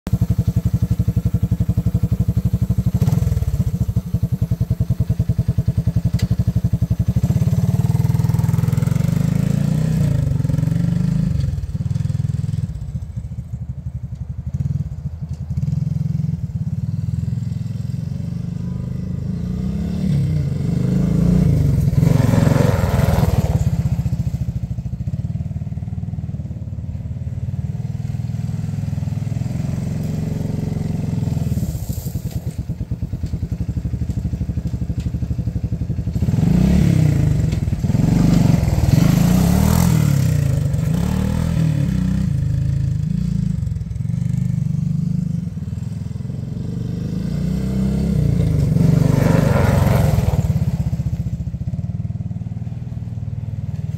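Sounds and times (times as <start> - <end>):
single-cylinder engine revving: 0.1 - 12.8, 14.5 - 26.4, 27.4 - 53.9.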